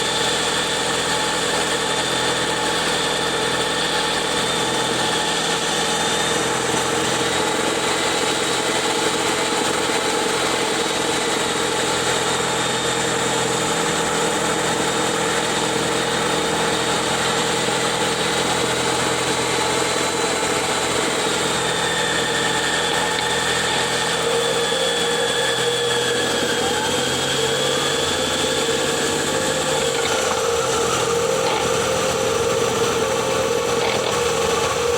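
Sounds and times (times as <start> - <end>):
transmission whining: 0.0 - 34.9.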